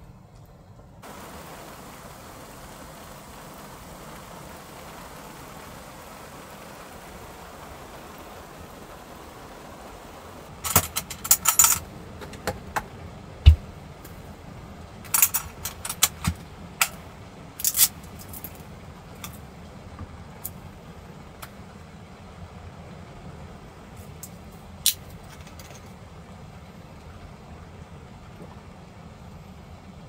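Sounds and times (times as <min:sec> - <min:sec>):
rain hissing: 0:00.0 - 0:30.0.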